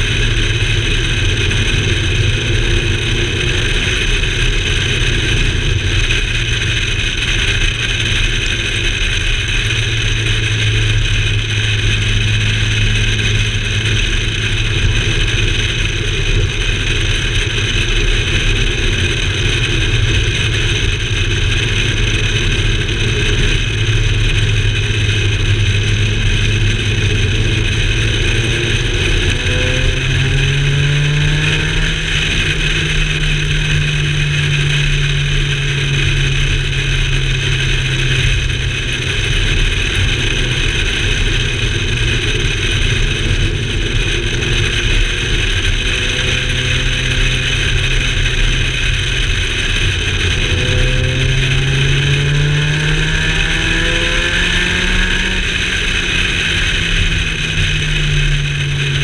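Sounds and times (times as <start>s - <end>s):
car engine: 0.0s - 59.0s
road and wind noise: 0.0s - 59.0s.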